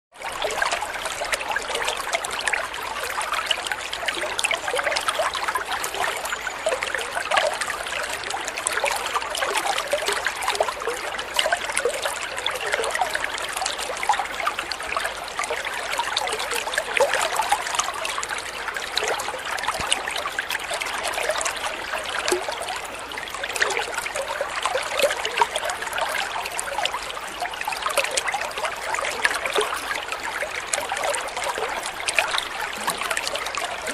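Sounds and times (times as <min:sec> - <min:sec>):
water babbling and trickling: 0:00.1 - 0:33.9.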